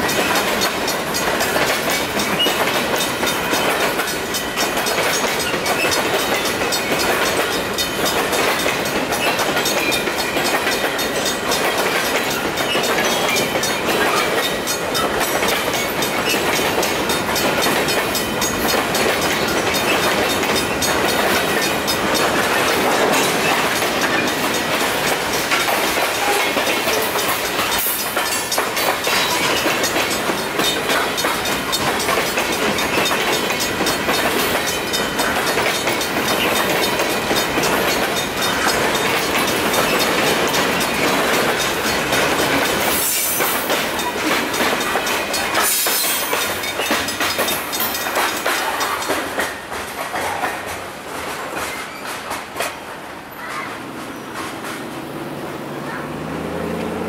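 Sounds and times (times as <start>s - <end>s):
crossing signal bell ringing: 0.0s - 49.2s
train wheels clattering on rails: 0.0s - 57.0s.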